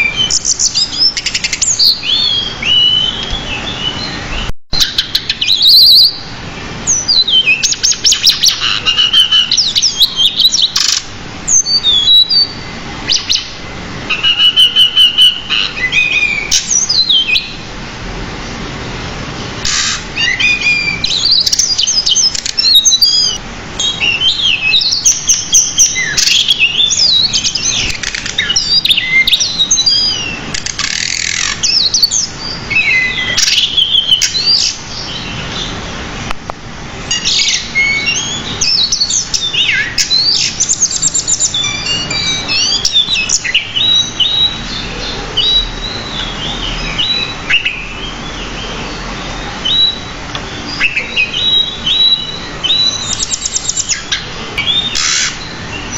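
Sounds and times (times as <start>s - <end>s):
bird singing: 0.0s - 17.7s, 19.4s - 35.9s, 37.1s - 55.9s.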